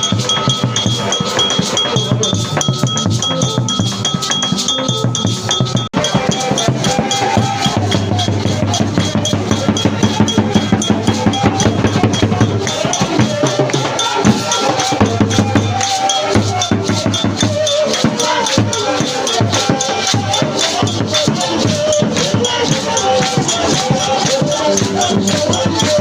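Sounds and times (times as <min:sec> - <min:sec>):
drums and percussion: 0:00.0 - 0:26.0
voices singing: 0:00.0 - 0:26.0.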